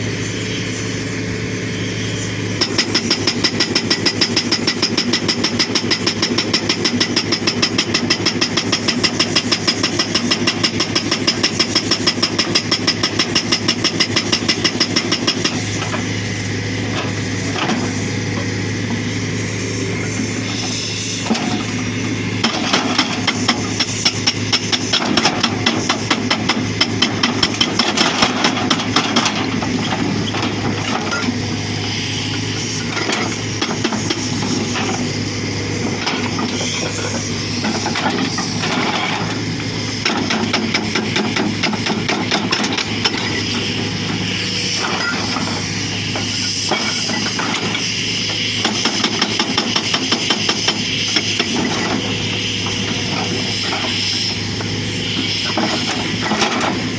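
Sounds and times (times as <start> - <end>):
diesel engine running: 0.0 - 56.9
hydraulic breaker hammering rock: 2.5 - 19.0, 20.0 - 31.6, 32.2 - 56.9.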